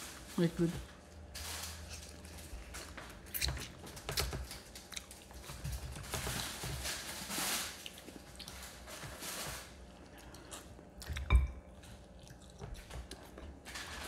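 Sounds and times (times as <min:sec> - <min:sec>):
biting and chewing chicken: 0:01.8 - 0:14.0.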